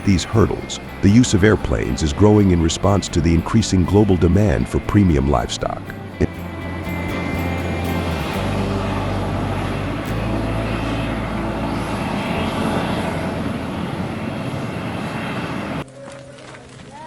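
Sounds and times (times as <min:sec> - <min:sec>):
aircraft engines running: 0:00.0 - 0:15.9.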